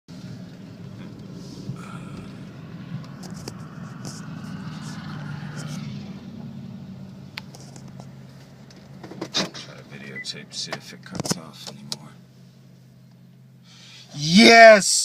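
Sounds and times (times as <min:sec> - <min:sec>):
car engine idling: 0:00.1 - 0:14.3.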